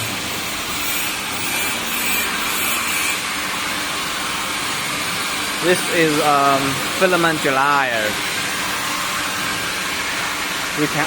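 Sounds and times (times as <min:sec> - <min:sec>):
three-d printers whirring: 0:00.0 - 0:11.0.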